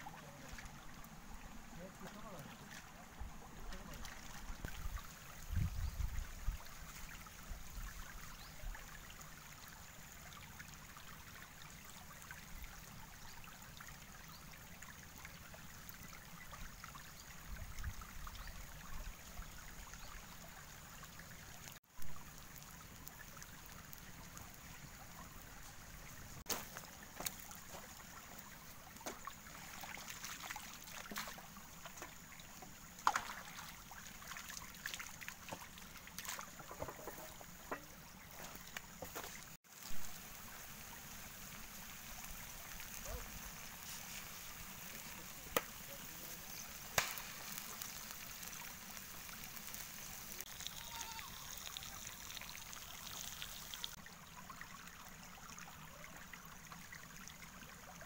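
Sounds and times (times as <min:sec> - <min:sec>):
stream trickling over rocks: 0:00.0 - 0:58.0.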